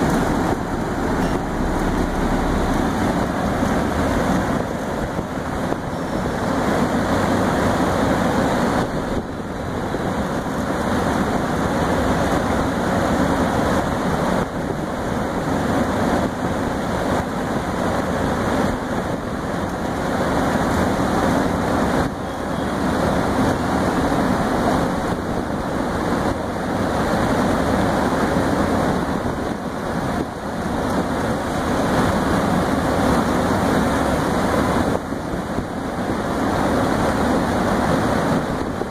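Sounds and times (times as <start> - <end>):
air cooler fan blowing: 0.0 - 38.9.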